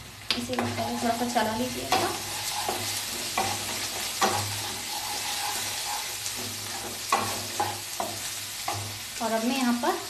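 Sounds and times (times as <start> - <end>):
vegetables sizzling in oil: 0.0 - 10.0
spoon knocking and scraping pan: 0.5 - 9.1.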